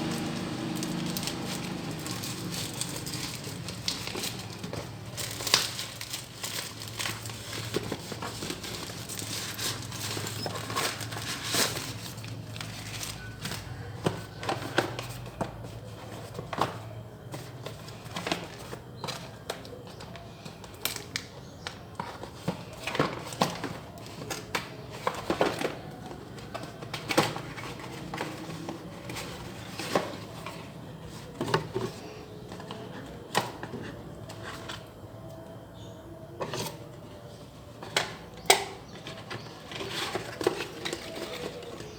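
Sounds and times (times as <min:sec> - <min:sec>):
packaging crinkling and rustling: 0:00.0 - 0:41.9.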